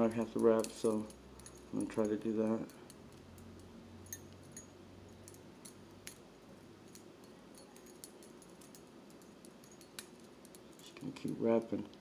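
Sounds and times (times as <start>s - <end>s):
faint clicks of metal parts: 0.0s - 12.0s.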